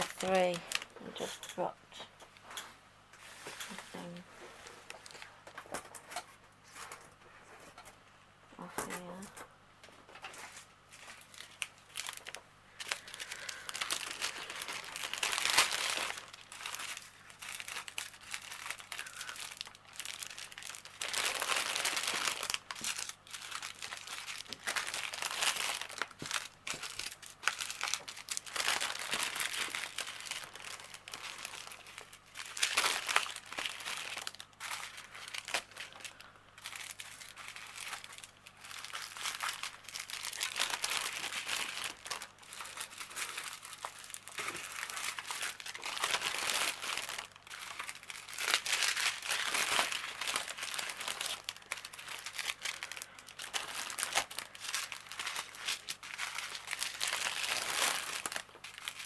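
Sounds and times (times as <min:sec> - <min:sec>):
plastic bags crinkling: 0:00.0 - 0:07.0, 0:10.1 - 0:59.0.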